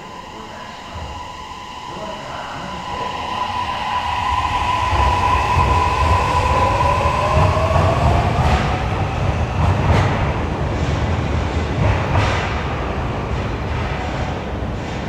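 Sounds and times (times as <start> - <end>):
electric train inverter whining: 0.0 - 15.0
train wheel rumble: 0.0 - 15.0.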